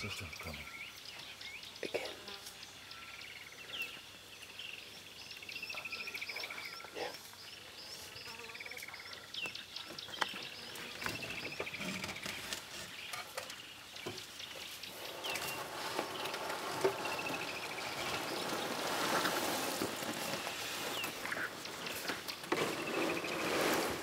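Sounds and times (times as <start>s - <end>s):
birds calling: 0.0s - 24.0s
rustling hiss: 0.0s - 24.0s.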